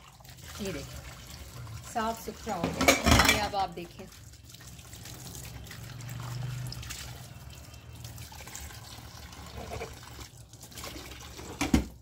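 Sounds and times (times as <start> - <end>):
tap water running into sink: 0.0 - 12.0.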